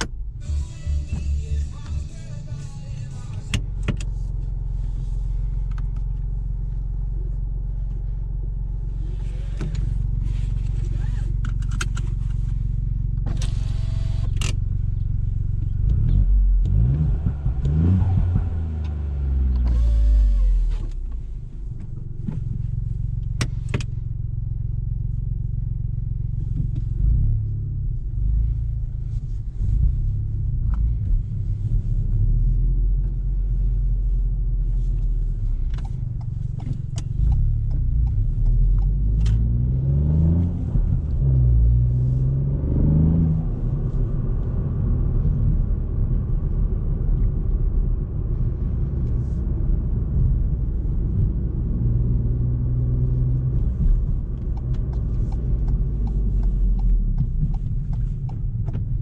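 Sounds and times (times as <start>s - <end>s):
car engine droning: 0.0s - 59.0s
road noise: 0.0s - 59.0s.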